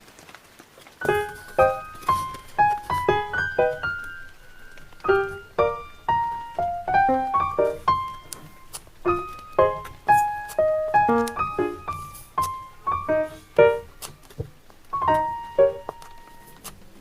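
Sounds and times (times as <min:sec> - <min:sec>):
keyboard melody: 0:01.0 - 0:16.6.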